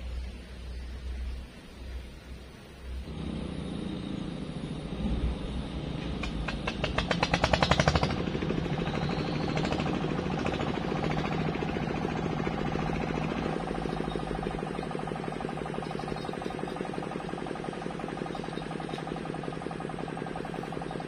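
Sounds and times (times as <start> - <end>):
engine starting and droning: 0.0 - 21.0.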